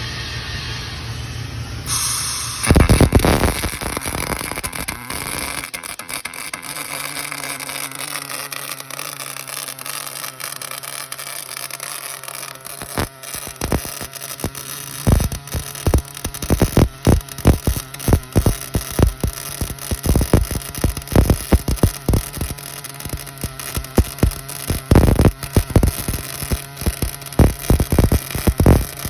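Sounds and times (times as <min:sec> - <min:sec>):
welding arc crackling: 0:01.9 - 0:29.0.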